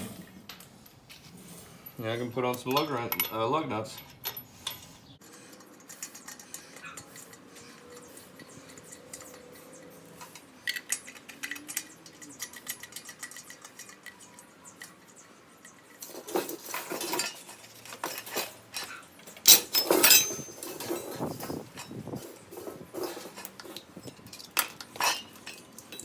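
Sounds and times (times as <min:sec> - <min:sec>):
metal lug nuts clinking: 0:00.1 - 0:26.0.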